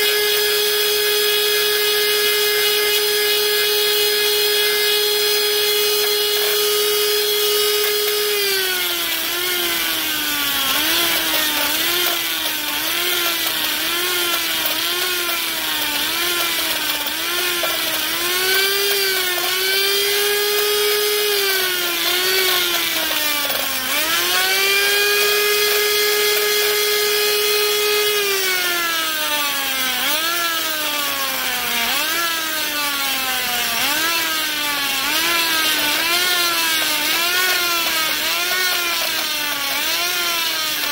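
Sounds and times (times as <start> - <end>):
die grinder whining: 0.0 - 40.9.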